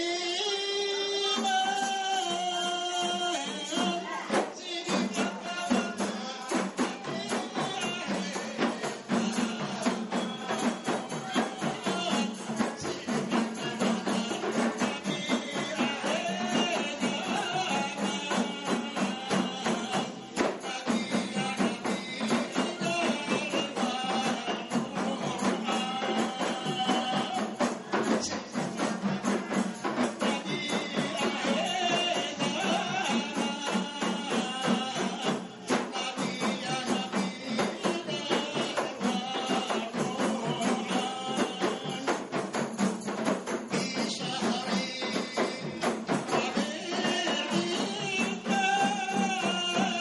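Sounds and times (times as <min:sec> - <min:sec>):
frame drums beaten fast: 0:00.0 - 0:50.0
man singing into a microphone: 0:00.0 - 0:50.0.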